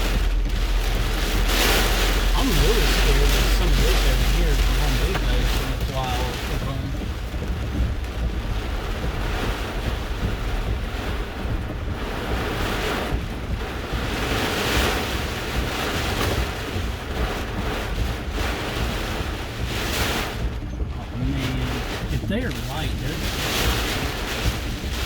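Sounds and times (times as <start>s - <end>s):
wind buffeting microphone: 0.0s - 25.0s
winds rushing and gusting: 0.0s - 25.0s.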